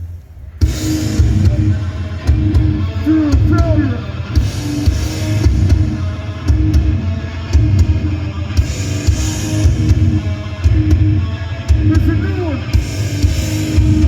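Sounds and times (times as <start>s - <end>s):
live metal band playing: 0.0s - 14.0s.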